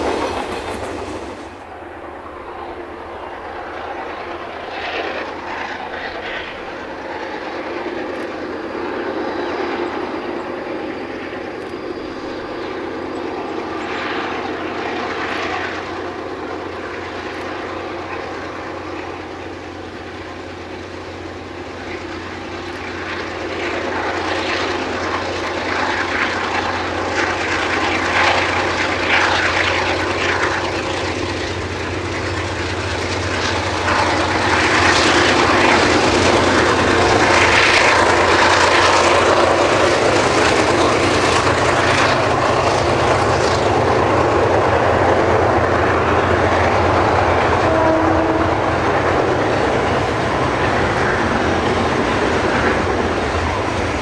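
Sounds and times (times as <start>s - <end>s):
diesel locomotive engines droning: 0.0s - 54.0s.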